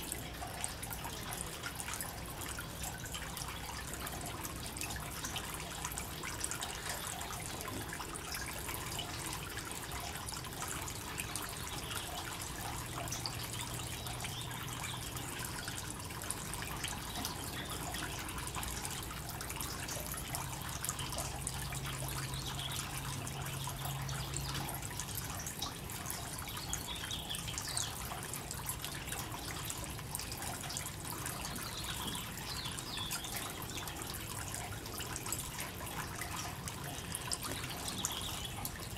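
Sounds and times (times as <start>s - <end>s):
garden fountain trickling: 0.0s - 38.9s.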